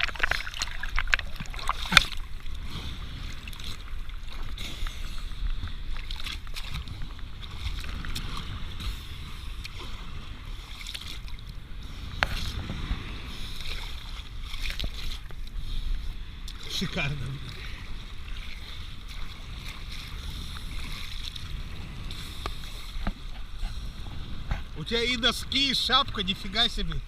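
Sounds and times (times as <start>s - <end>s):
water splashing and lapping: 0.0s - 27.0s
wind rumble on microphone: 0.0s - 27.0s.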